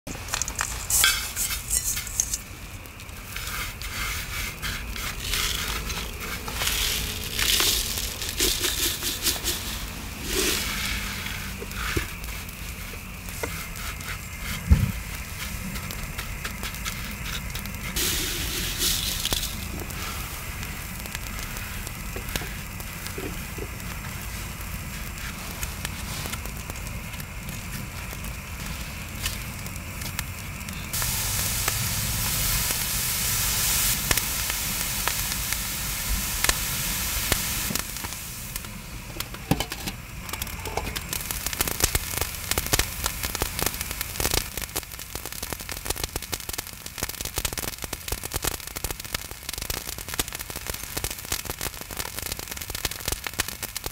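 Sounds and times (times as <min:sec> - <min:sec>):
salt and prawns crackling: 0:00.1 - 0:53.9
salt rustling: 0:00.1 - 0:53.9
steady hiss: 0:00.1 - 0:53.9.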